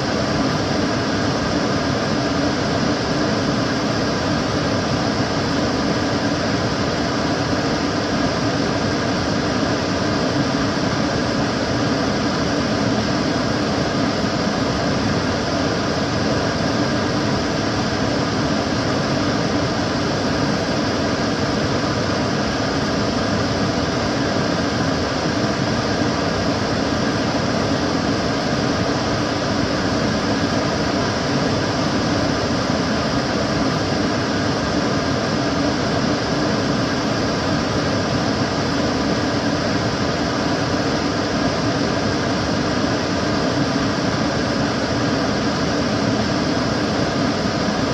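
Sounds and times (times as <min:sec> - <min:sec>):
extractor fan running: 0:00.0 - 0:47.9.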